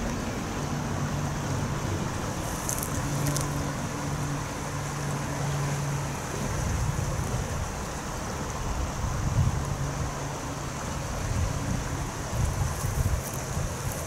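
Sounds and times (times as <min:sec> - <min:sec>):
distant vehicle engine drone: 0:00.0 - 0:13.9
river water rushing: 0:00.0 - 0:14.0
wind: 0:00.0 - 0:14.0.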